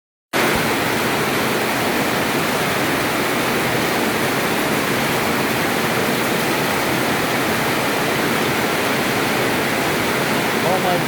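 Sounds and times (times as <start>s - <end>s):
heavy rain pouring: 0.4s - 11.0s.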